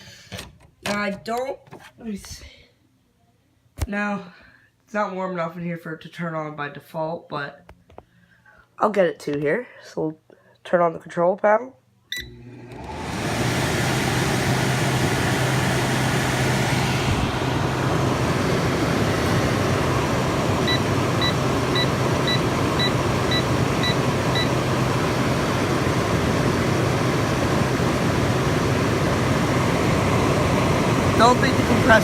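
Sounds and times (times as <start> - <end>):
air conditioner fan humming: 0.0 - 32.0.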